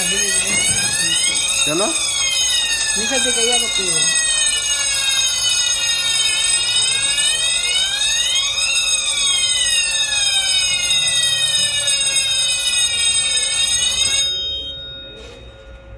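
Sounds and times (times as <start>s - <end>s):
fire alarm sounders wailing: 0.0s - 15.9s
steady high alarm tones: 0.0s - 15.9s.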